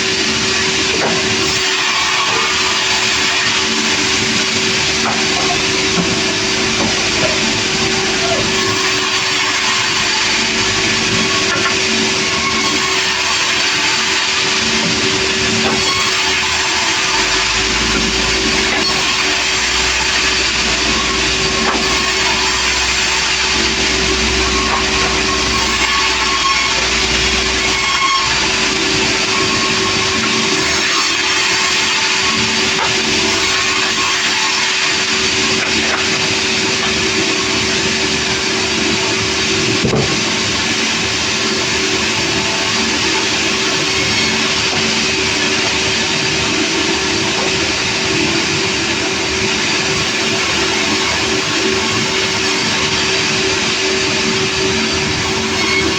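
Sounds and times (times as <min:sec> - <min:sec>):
sawmill saw cutting log: 0:00.0 - 0:55.9.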